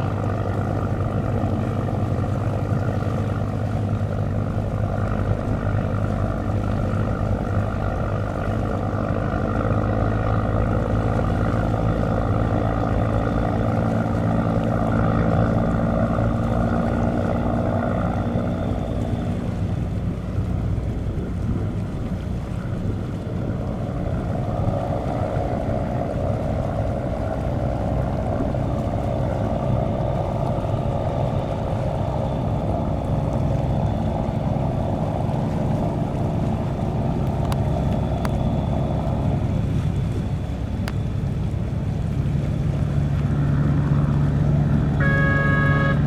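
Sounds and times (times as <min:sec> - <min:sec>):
ferry engines running: 0:00.0 - 0:46.0
water wash: 0:00.0 - 0:46.0
wind on microphone: 0:00.0 - 0:46.0.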